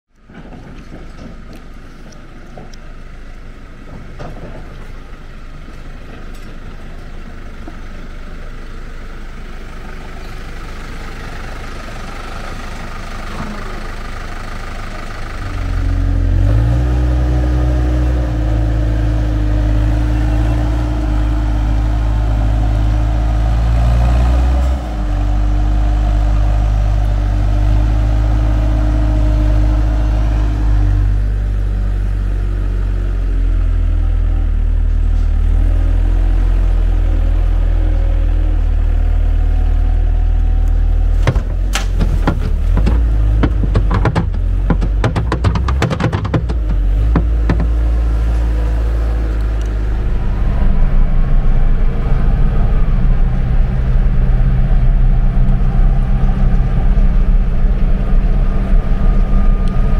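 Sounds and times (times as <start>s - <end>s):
diesel engine working: 0.1s - 59.9s.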